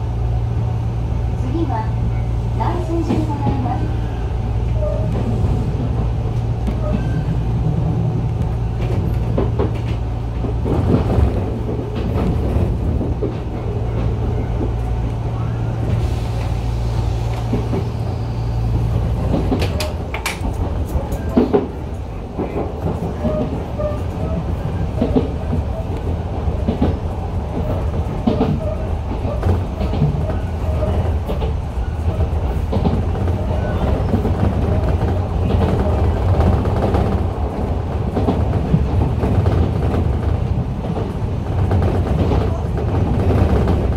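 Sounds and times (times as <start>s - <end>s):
electric train running hum: 0.0s - 43.9s.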